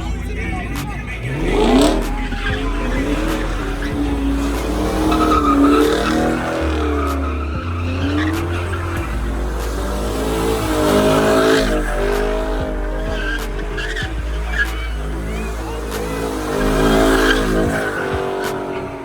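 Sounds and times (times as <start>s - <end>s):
car engine revving: 0.0s - 19.0s
music with heavy bass line: 0.0s - 19.0s
tyres squealing: 0.0s - 19.0s.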